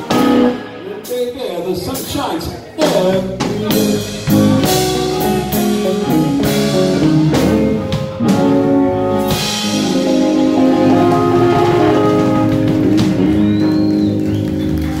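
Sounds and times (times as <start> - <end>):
electric guitars: 0.0 - 1.1, 2.8 - 15.0
drum kit beat: 0.0 - 15.0.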